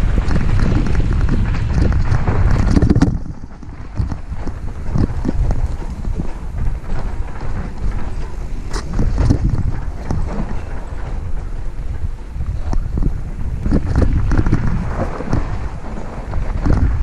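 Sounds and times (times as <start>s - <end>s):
bike chain and frame rattling: 0.0s - 17.0s
wind buffeting microphone: 0.0s - 17.0s.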